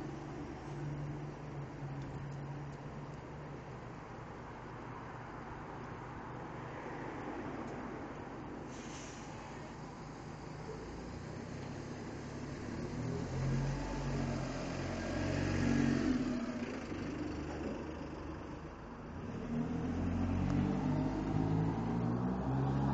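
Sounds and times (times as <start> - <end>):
bus diesel engine accelerating: 0.0 - 5.1, 7.6 - 22.9.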